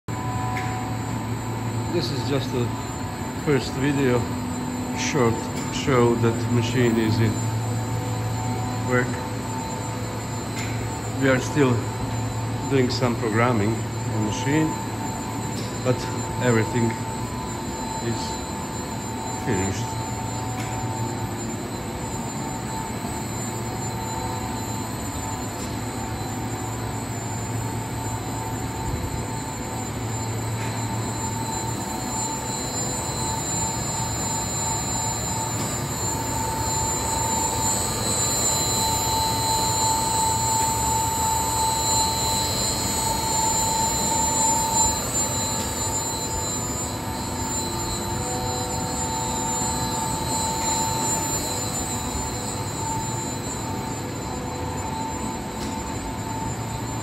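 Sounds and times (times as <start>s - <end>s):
high-pitched machine whines: 0.0s - 57.0s.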